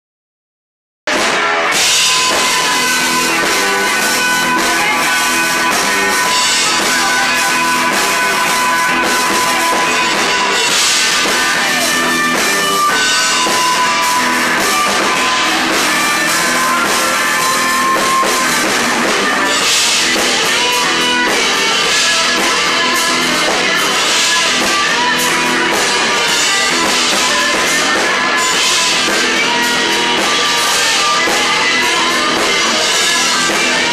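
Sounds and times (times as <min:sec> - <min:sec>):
drum kit: 0:01.1 - 0:33.9
electric guitars: 0:01.1 - 0:33.9
live rock band playing loud: 0:01.1 - 0:33.9.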